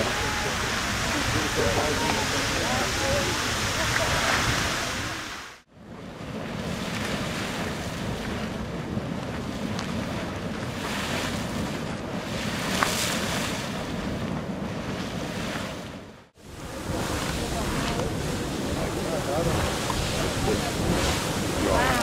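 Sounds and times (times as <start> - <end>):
geyser splashing and venting steam: 0.0 - 22.0
wind buffeting microphone: 0.0 - 22.0.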